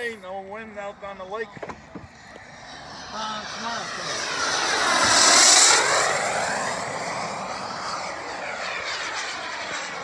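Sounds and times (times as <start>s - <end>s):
jet turbine whine passing: 0.0s - 10.0s.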